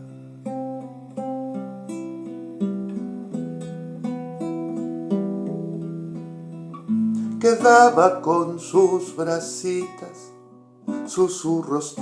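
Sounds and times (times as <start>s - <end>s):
fingerpicked acoustic guitar: 0.0s - 12.0s.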